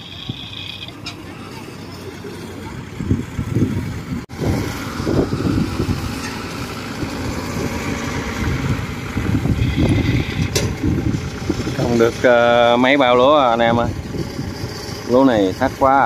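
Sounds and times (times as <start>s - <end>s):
combine harvester engine: 0.0s - 16.0s
tracked carrier engine: 0.0s - 16.0s.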